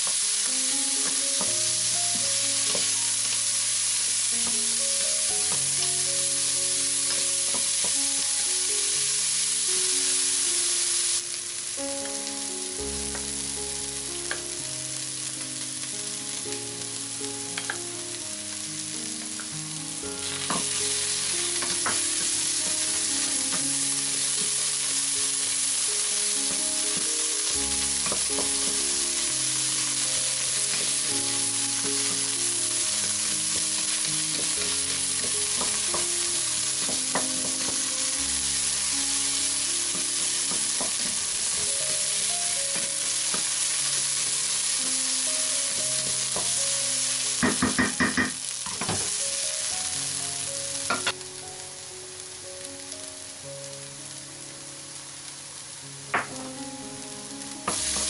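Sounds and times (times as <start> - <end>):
soft background music: 0.0 - 58.0
vegetables sizzling in oil: 0.0 - 58.0.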